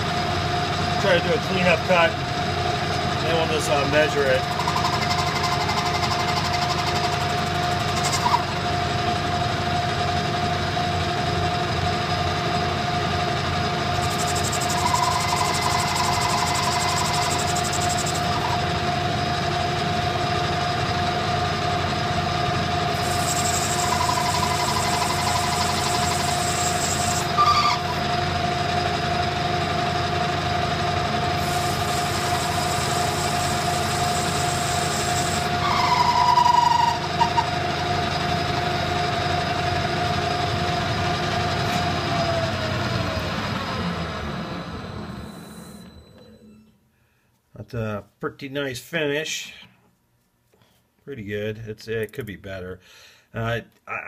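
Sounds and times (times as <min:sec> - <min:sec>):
metal lathe running with whine: 0:00.0 - 0:46.6.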